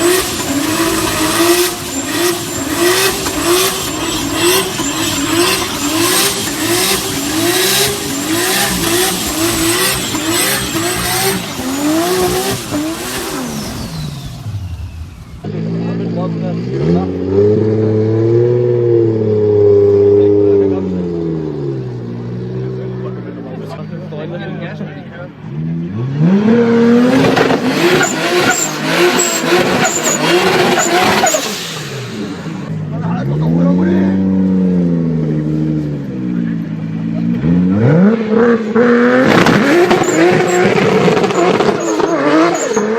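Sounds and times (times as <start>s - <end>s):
turbocharged car engine revving: 0.0s - 42.9s.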